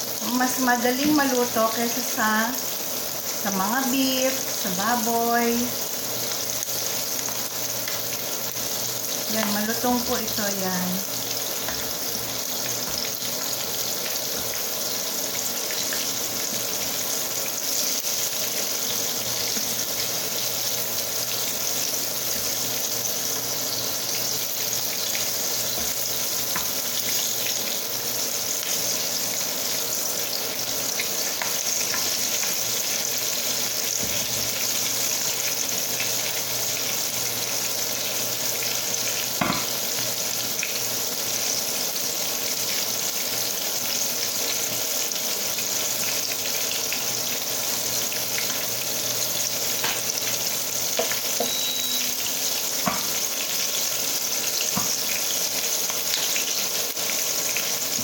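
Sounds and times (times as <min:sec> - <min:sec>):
chicken sizzling in oil: 0:00.0 - 0:58.0.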